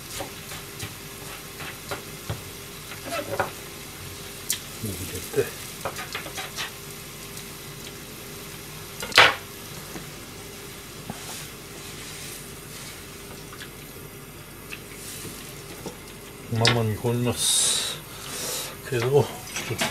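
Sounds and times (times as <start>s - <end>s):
stew simmering and sizzling: 0.0s - 19.9s.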